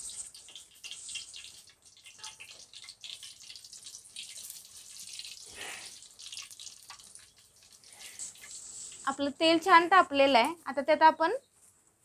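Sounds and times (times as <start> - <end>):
oil sizzling with crackles and pops: 0.0 - 11.0.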